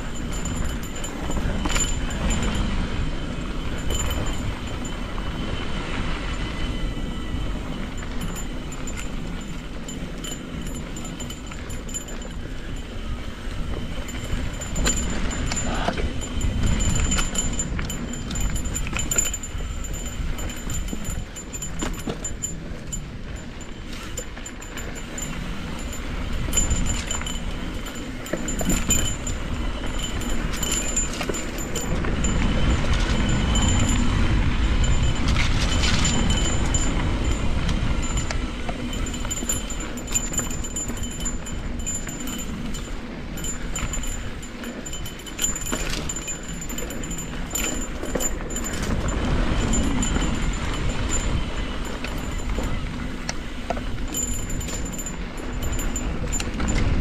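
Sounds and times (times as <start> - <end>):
bike tyres rolling over dirt: 0.0 - 57.0
chain and frame rattling: 0.0 - 57.0
wind rumble on microphone: 0.0 - 57.0.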